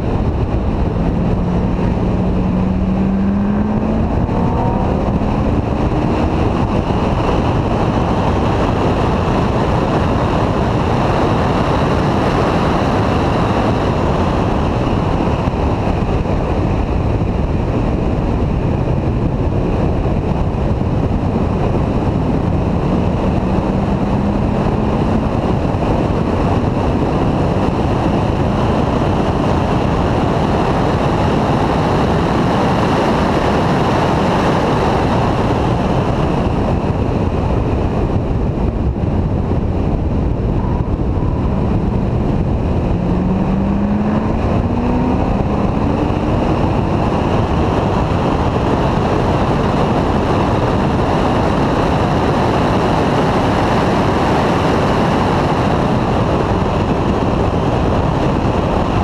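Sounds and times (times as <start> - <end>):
car engine running hard: 0.0 - 59.0
wind noise on microphone: 0.0 - 59.0.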